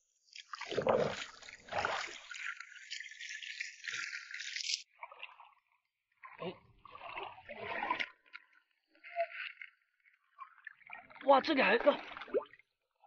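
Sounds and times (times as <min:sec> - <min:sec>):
feet wading through water: 0:00.4 - 0:12.5.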